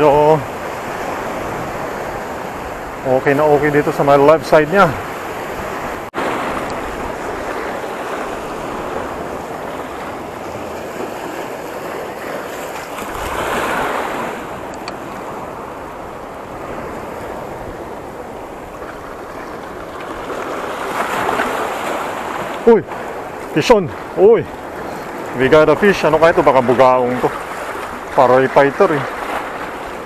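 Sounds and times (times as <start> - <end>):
surf washing against rocks: 0.0 - 30.0.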